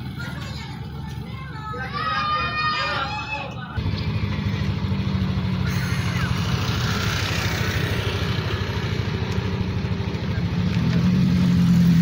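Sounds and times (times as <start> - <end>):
vehicle engine running steadily: 0.0 - 2.4, 3.7 - 12.0.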